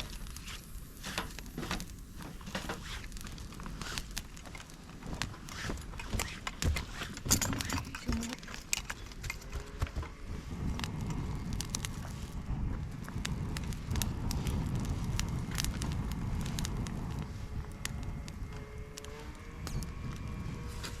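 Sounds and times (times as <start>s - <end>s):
fire crackling and popping: 0.0s - 21.0s
low rush of flames: 0.0s - 21.0s.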